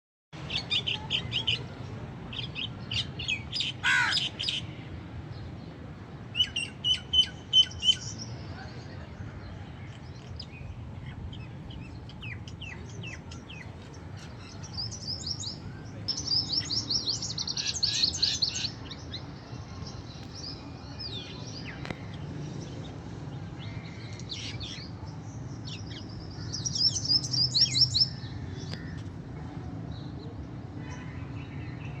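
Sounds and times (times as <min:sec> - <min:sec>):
songbirds chirping: 0:00.4 - 0:32.0.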